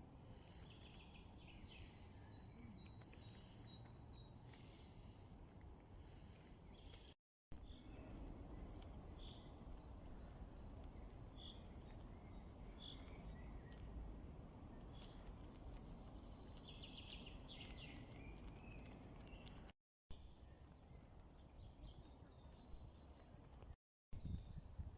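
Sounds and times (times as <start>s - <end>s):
small birds chirping: 0.0s - 24.6s.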